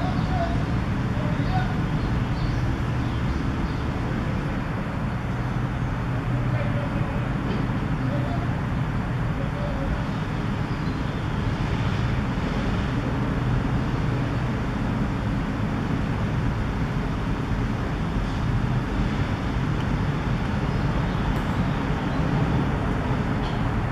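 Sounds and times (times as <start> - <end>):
low outdoor rumble: 0.0 - 23.9.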